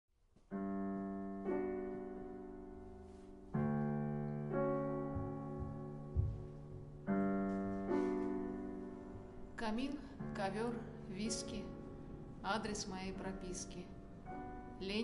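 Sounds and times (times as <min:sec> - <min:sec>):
slow piano chords: 0:00.4 - 0:15.0.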